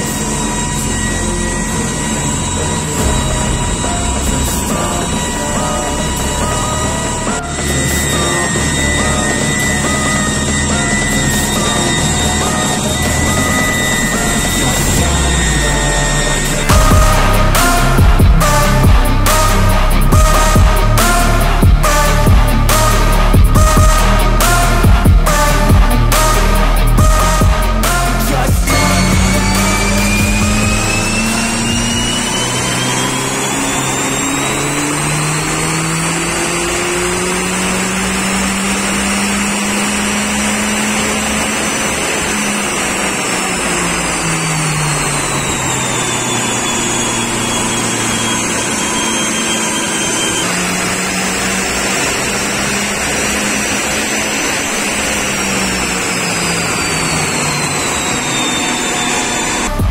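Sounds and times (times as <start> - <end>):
car engine revving under load: 0.0 - 59.9
high turbo whine: 0.0 - 59.9.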